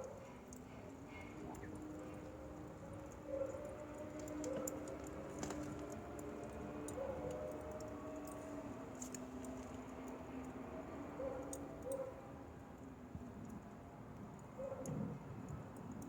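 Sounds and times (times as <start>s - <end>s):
low rumble of burning: 0.1s - 16.0s.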